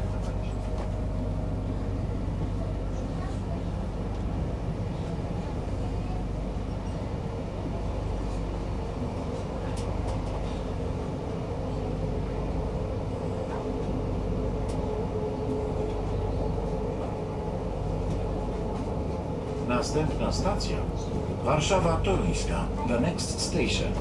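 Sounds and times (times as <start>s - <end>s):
train rumbling inside carriage: 0.0s - 24.0s.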